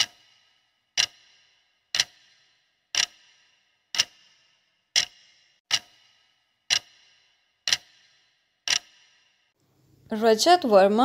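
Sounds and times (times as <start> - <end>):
clock ticking: 0.0 - 9.6.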